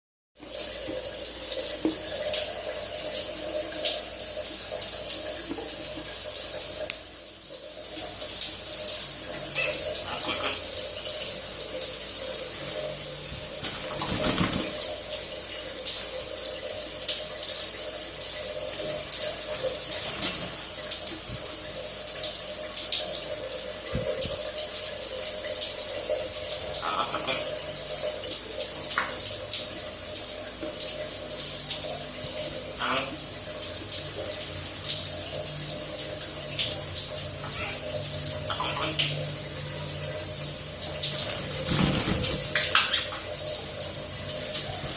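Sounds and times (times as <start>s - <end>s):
tap water running: 0.4s - 44.9s.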